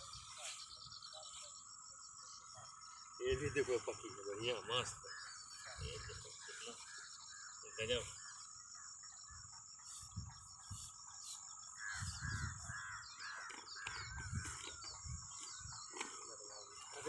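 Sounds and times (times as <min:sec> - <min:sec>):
birds chirping calls: 0:00.0 - 0:17.0.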